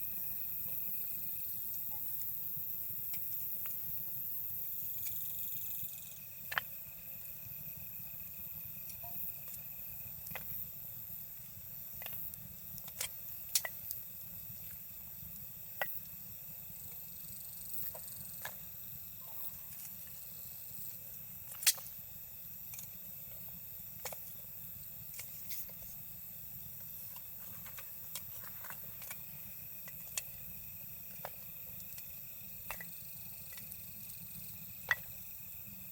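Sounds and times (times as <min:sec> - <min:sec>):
night insects trilling: 0:00.0 - 0:35.9
campfire crackling and popping: 0:06.1 - 0:35.9.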